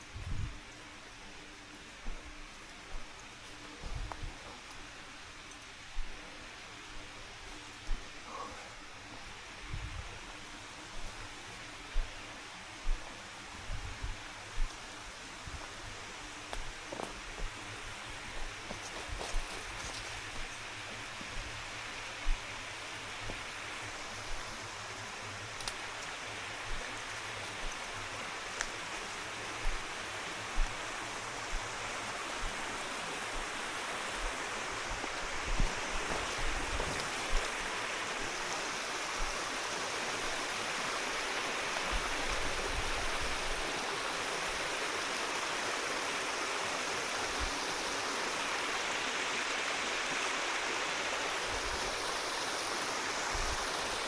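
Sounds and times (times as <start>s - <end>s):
forest stream rushing: 0.0s - 54.0s.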